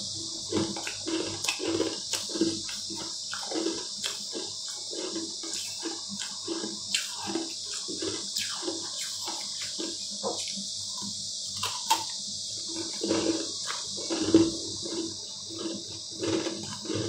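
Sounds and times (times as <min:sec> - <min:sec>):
crunching and wet chewing of ice: 0:00.4 - 0:17.0.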